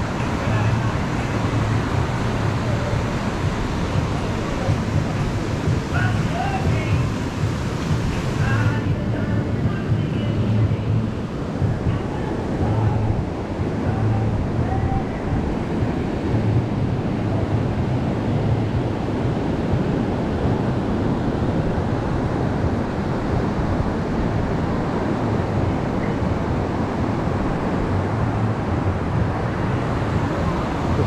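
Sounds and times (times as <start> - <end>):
surf breaking on beach: 0.0 - 31.0
wind rumbling on microphone: 0.0 - 31.0.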